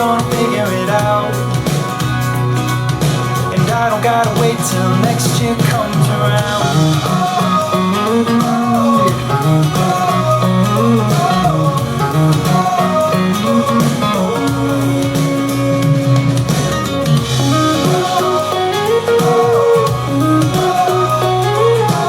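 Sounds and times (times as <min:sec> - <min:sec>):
guitar-led pop music: 0:00.0 - 0:22.0.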